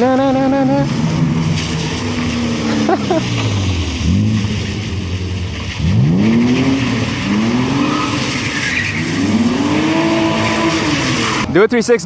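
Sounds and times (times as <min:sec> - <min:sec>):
car engine revving hard: 0:00.0 - 0:11.5.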